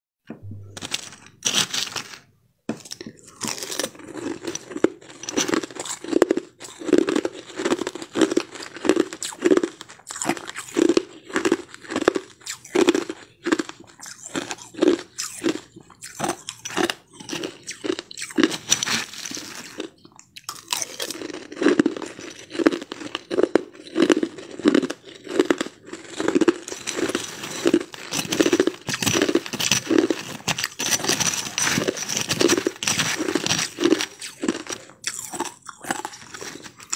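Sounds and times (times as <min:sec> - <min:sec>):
person chewing crushed ice: 0:00.4 - 0:36.9.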